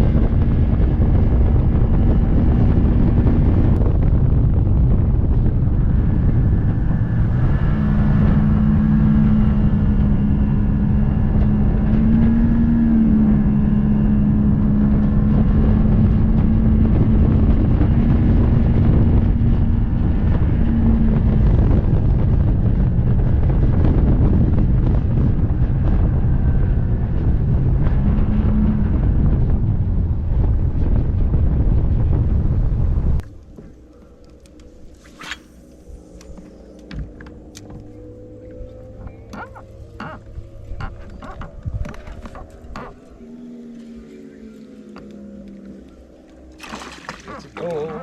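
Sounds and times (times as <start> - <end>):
outboard motor droning: 0.0 - 48.0
wind buffeting microphone: 0.0 - 48.0.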